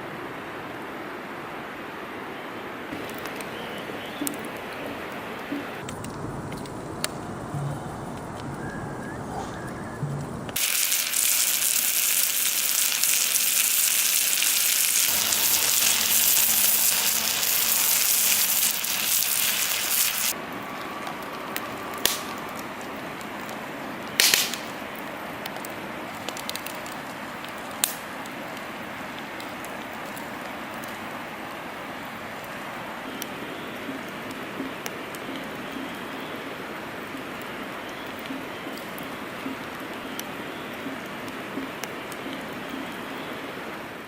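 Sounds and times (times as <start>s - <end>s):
campfire hissing: 0.1s - 44.0s
fire crackling pops: 2.9s - 8.7s, 10.0s - 43.2s.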